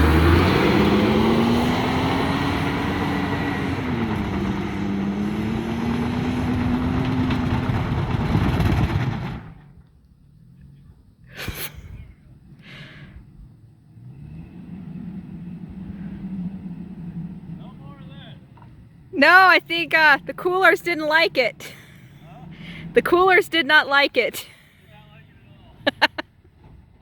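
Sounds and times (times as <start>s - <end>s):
truck engine working hard: 0.0s - 9.8s, 14.0s - 26.7s.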